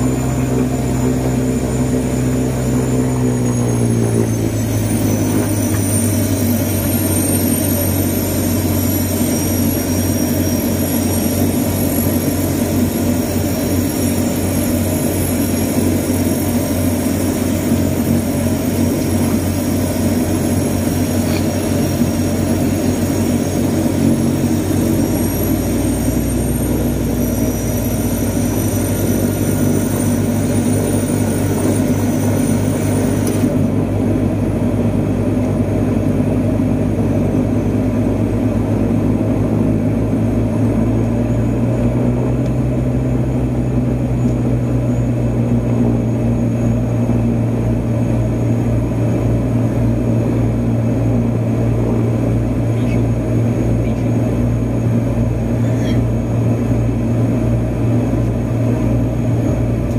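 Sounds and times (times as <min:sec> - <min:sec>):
deep rumble: 0:00.0 - 0:59.9
propeller engines droning: 0:00.0 - 0:59.9.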